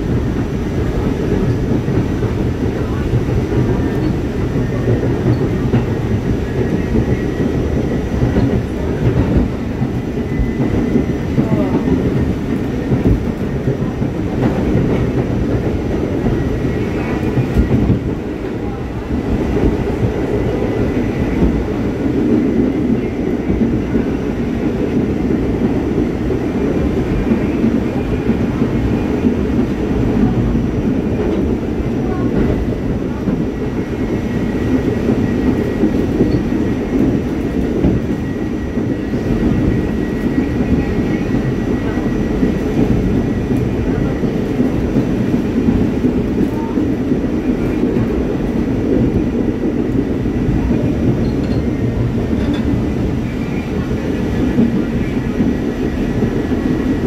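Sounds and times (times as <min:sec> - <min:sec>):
rumble of wheels on rail: 0:00.0 - 0:57.0.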